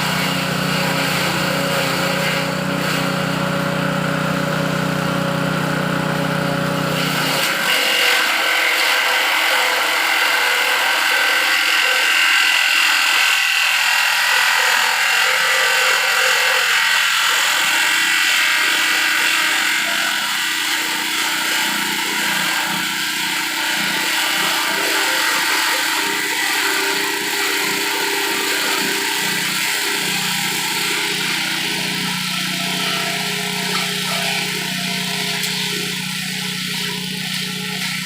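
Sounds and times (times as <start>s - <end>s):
grass chopper machine running: 0.0s - 38.0s.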